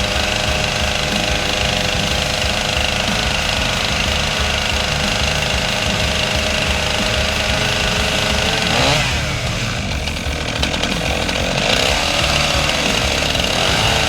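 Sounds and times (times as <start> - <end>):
chainsaw cutting through log: 0.0 - 14.0.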